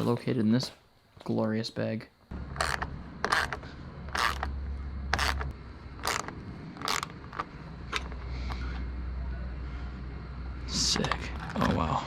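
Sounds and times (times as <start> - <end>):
low steady hum: 2.3 - 12.0.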